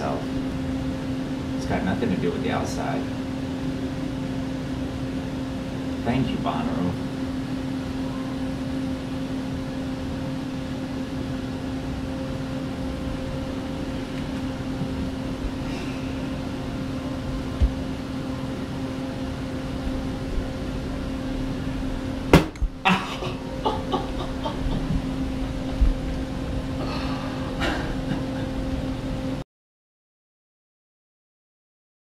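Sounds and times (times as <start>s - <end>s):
ventilation fan humming: 0.0s - 29.4s.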